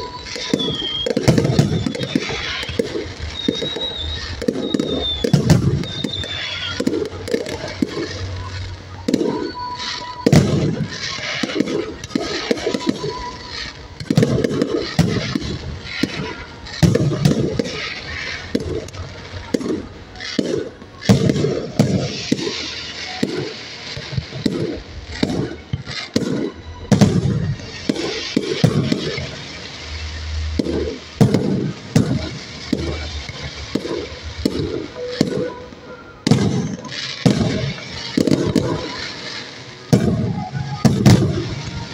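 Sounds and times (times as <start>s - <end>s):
fireworks bangs with rumble: 0.0s - 41.9s
fireworks crackling: 0.0s - 41.9s.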